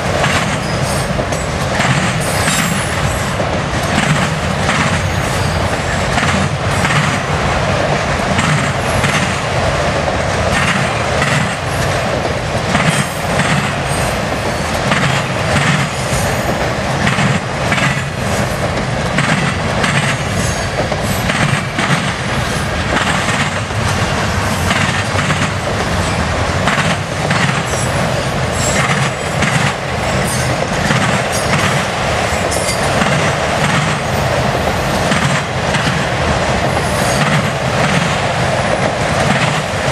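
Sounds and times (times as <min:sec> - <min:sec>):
steel wheels rumbling on rail: 0:00.0 - 0:39.9
wheels clacking over rail joints: 0:00.0 - 0:39.9.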